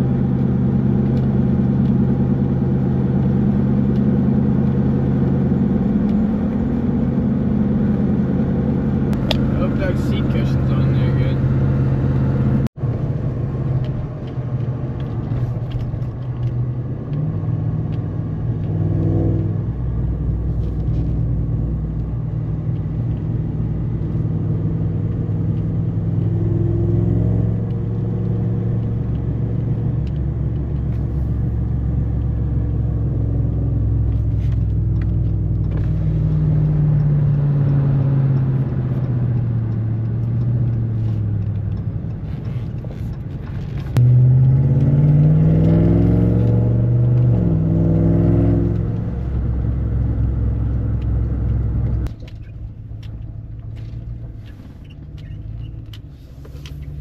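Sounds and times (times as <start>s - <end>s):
road noise: 0.0s - 57.0s
truck engine: 0.0s - 57.0s.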